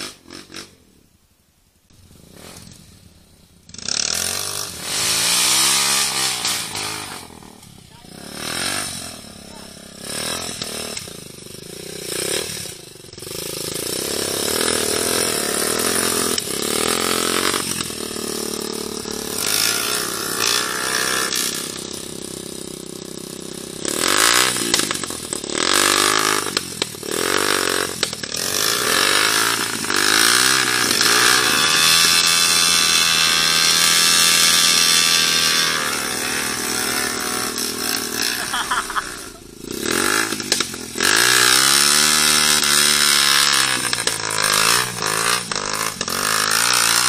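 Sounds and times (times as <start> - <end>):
motorcycle engine revving: 0.0 - 1.0, 1.9 - 47.0.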